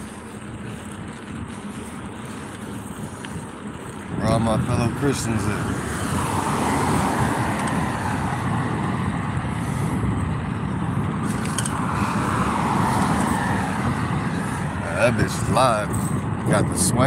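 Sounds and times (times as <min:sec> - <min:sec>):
car passing on road: 0:00.0 - 0:17.0
wind buffeting microphone: 0:00.0 - 0:17.0.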